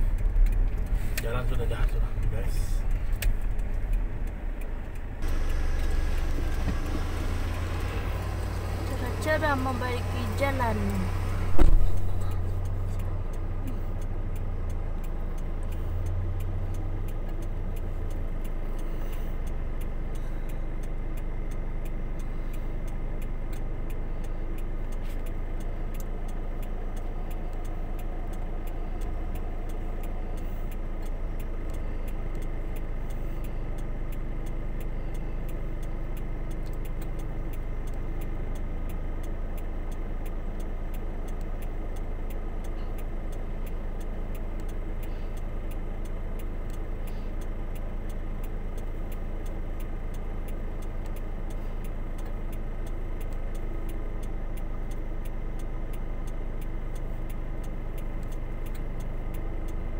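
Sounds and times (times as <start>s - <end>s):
engines idling: 0.0s - 59.9s
light fast ticking: 0.0s - 59.9s.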